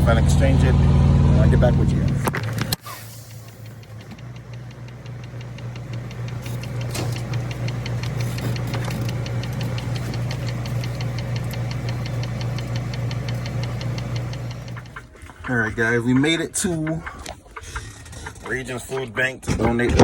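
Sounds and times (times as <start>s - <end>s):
engine humming with ticking: 0.0s - 20.0s.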